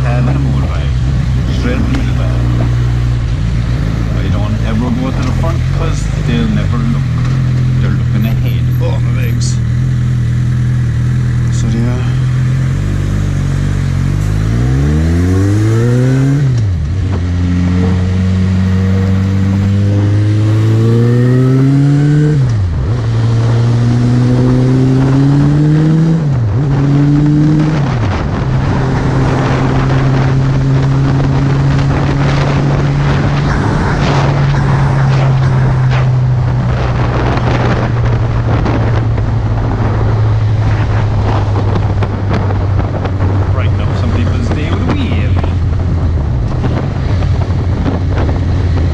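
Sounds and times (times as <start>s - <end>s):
wind rushing over microphone: 0.0s - 9.8s, 11.8s - 48.9s
motorcycle engine accelerating: 0.0s - 48.9s.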